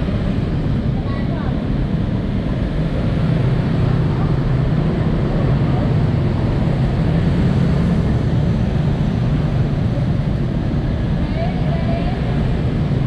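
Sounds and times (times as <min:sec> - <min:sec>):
motorbike traffic rumble: 0:00.0 - 0:13.0.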